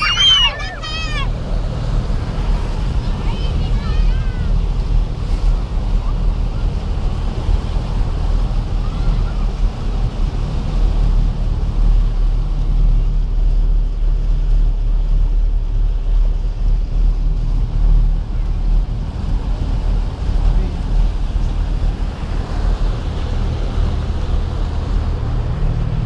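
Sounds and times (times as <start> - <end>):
low engine rumble: 0.0 - 26.0
water washing against vehicle: 0.0 - 26.0.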